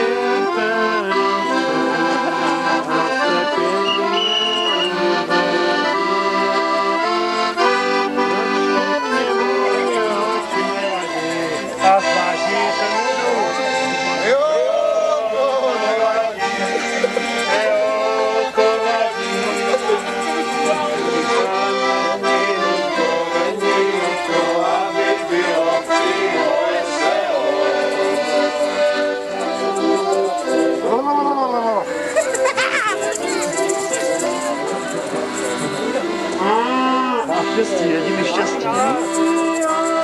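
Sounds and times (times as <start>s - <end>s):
accordion playing folk tune: 0.0s - 40.0s.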